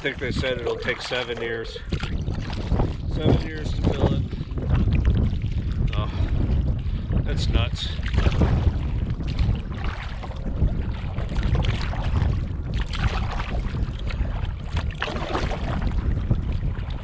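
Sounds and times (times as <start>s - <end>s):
water splashing against canoe: 0.0s - 17.0s
wind buffeting microphone: 0.0s - 17.0s.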